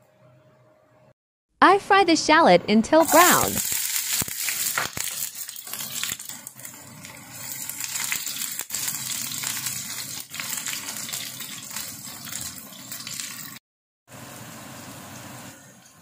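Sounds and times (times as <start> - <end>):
shallots sizzling in oil: 3.0 - 16.0.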